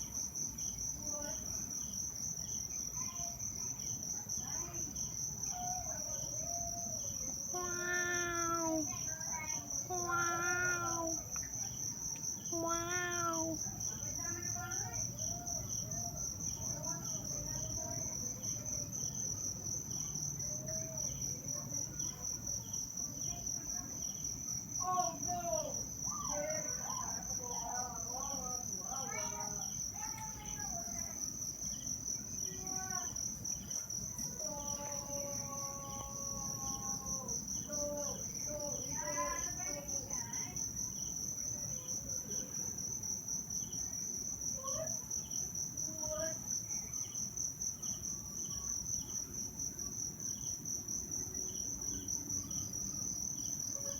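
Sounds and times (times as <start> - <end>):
insects trilling: 0.0 - 53.9.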